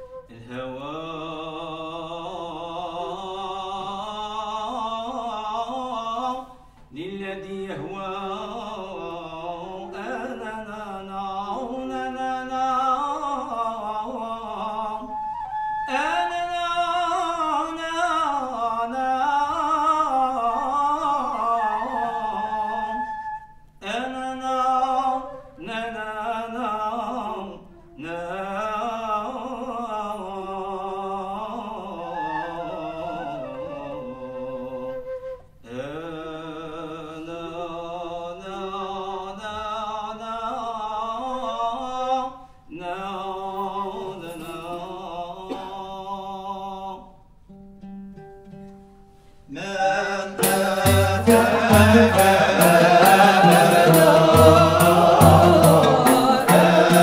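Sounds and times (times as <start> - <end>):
man singing devotional chant: 0.3 - 15.2, 15.9 - 23.2, 23.8 - 35.0, 35.6 - 47.1, 49.5 - 57.0.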